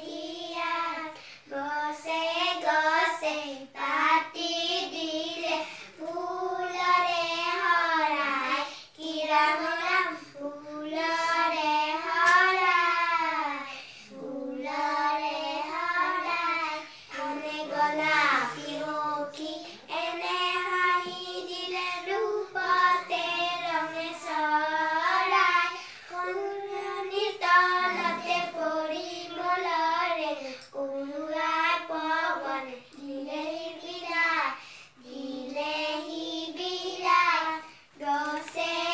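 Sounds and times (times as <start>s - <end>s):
girls singing in unison: 0.0s - 38.9s.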